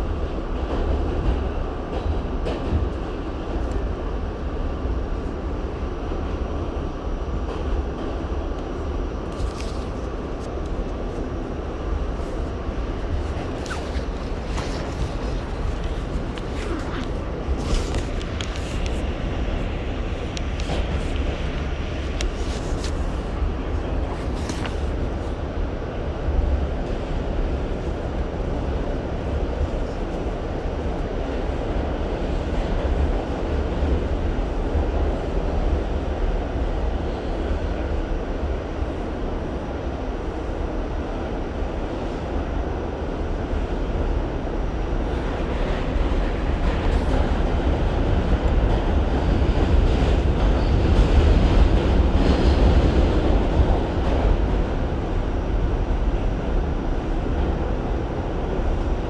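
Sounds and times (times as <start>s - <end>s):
subway train rumbling on rails: 0.0s - 59.0s.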